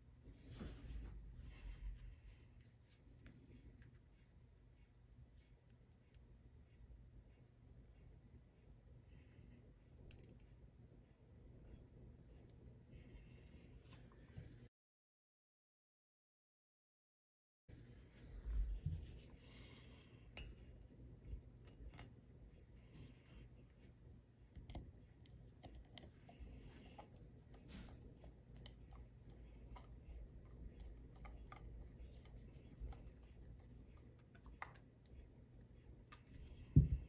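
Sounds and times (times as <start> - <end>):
low steady hum: 0.0 - 14.7, 17.7 - 37.0.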